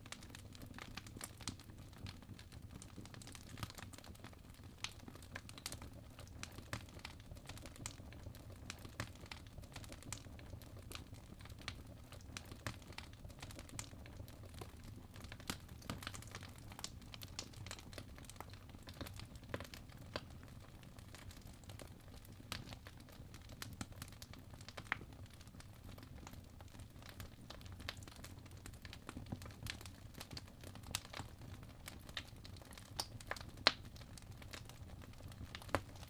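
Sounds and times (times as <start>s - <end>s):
wood fire crackling and popping: 0.0s - 36.0s.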